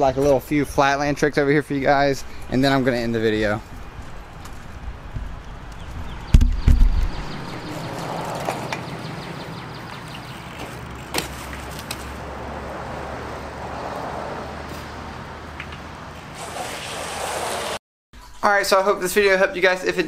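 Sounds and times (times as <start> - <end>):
bike tyres rolling on concrete: 0.0 - 17.8.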